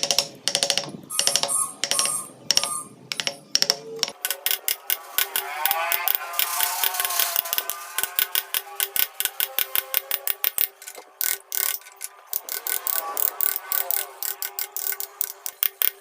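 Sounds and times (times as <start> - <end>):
chisel cutting into wood: 0.0 - 11.5, 12.3 - 16.0.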